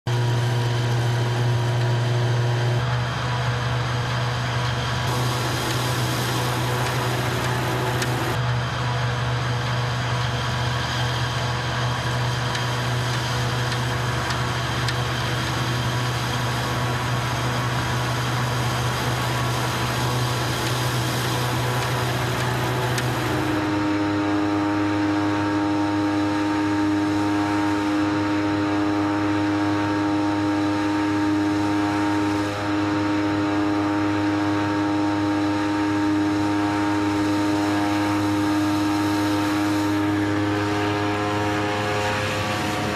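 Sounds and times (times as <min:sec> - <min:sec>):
forage harvester droning: 0:00.1 - 0:42.9
steady mechanical whine: 0:00.1 - 0:42.9.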